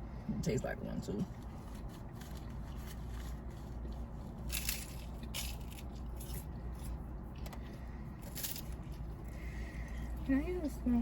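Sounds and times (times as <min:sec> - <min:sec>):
steady low hum: 0:00.0 - 0:11.0
person chewing crunchy food: 0:01.4 - 0:10.3.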